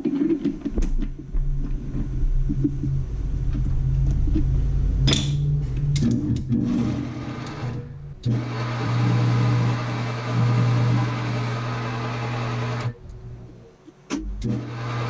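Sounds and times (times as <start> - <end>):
machine motor hum: 0.3 - 15.0
metal cutting noise: 2.2 - 15.0.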